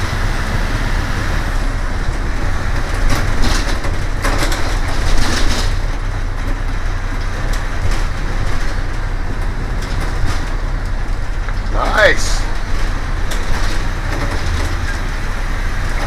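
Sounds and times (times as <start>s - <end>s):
bus body rattling and knocking: 0.0s - 16.0s
bus engine and road rumble: 0.0s - 16.0s.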